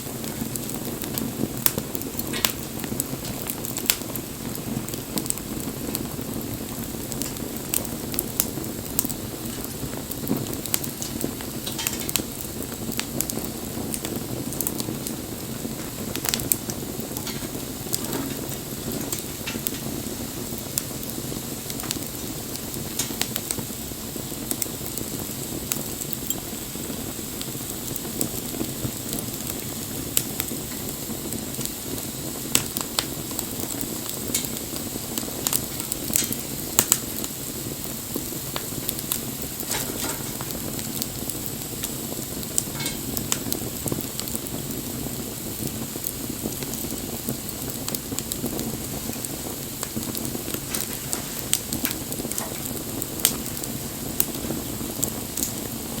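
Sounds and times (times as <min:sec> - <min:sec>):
fire crackles and pops: 0:00.0 - 0:56.0
low rush of flame: 0:00.0 - 0:56.0.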